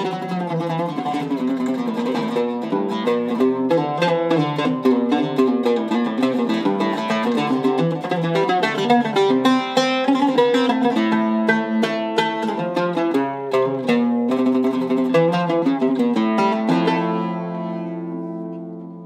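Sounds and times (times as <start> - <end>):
oud plucked notes: 0.0 - 19.0.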